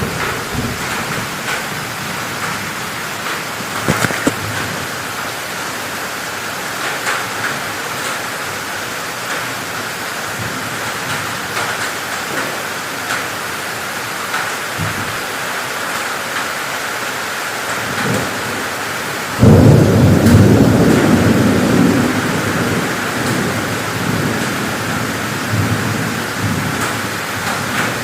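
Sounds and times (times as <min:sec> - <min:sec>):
heavy rain pouring: 0:00.0 - 0:28.0
rain spatters: 0:00.0 - 0:28.0.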